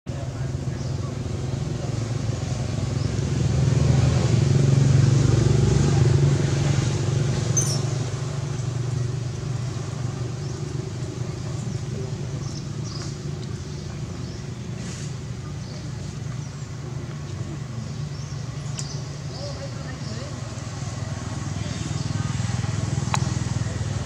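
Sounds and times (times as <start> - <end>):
engine humming: 0.1 - 24.0.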